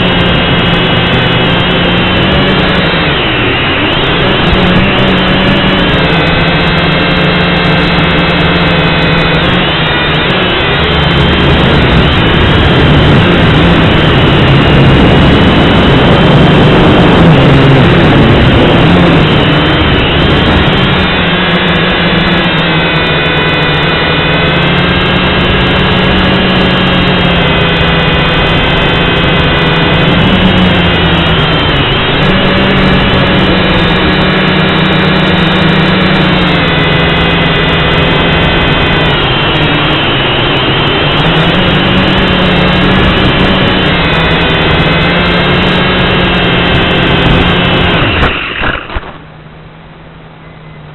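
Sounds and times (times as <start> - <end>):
quadcopter motors whining: 0.0 - 50.9.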